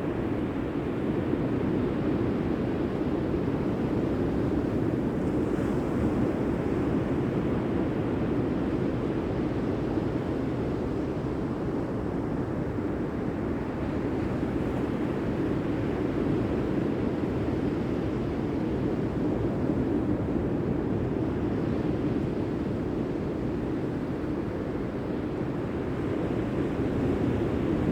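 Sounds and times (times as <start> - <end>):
wind: 0.0 - 27.9.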